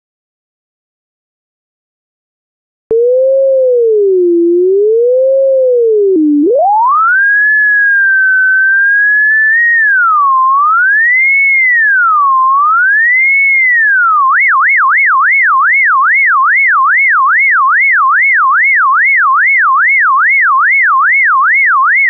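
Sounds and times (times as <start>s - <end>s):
wavering sine tone: 2.9s - 22.0s.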